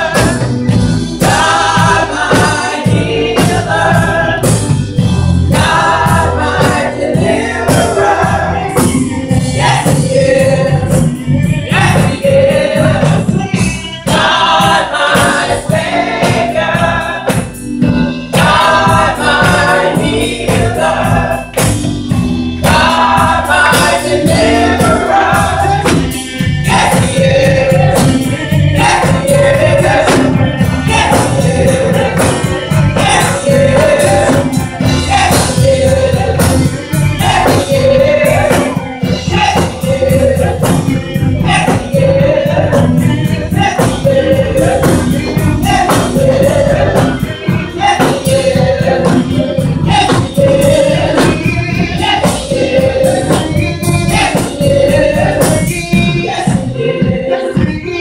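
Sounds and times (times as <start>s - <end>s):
gospel choir singing: 0.0s - 58.0s
steady beat and bass: 0.0s - 58.0s.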